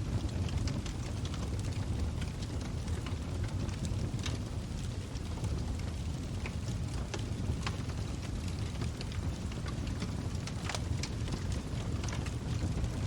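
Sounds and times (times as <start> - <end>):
low rumble of flames: 0.0 - 13.0
wood crackling and popping: 0.0 - 13.0.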